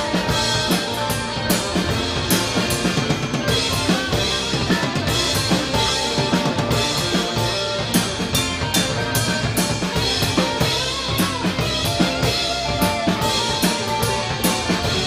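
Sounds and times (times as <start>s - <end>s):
drum kit beat: 0.0s - 15.0s
electric bass: 0.0s - 15.0s
guitars: 0.0s - 15.0s.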